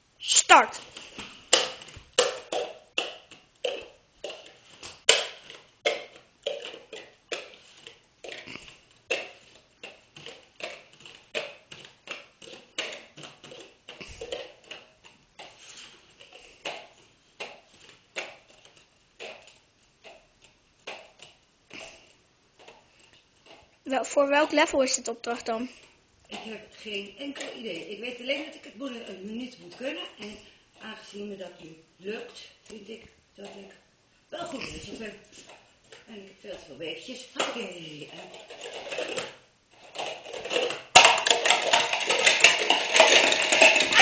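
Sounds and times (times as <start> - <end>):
plastic cups clicking and tapping: 0.7 - 33.8, 34.4 - 44.0.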